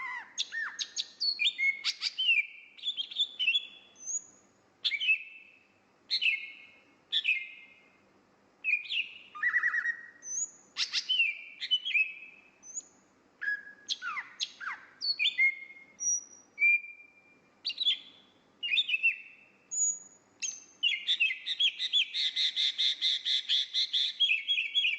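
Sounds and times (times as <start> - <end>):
songbird whistling song: 0.0 - 8.0, 8.6 - 24.9.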